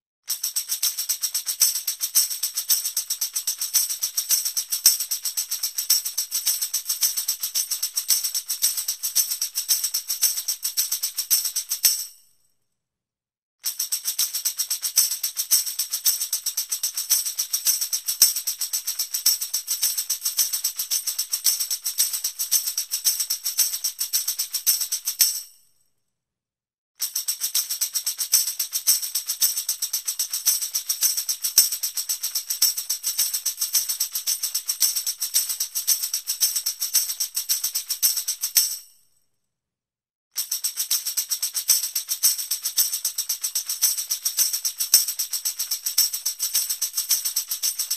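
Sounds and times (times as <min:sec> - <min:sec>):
tambourine rattling: 0:00.3 - 0:12.2, 0:13.6 - 0:25.6, 0:27.0 - 0:39.0, 0:40.4 - 0:47.9.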